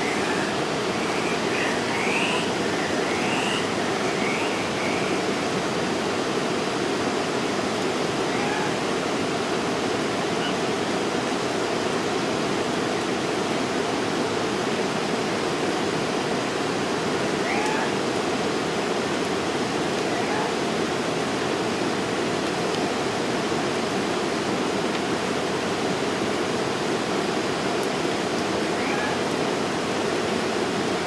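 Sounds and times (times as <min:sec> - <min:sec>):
rushing water: 0:00.0 - 0:31.0.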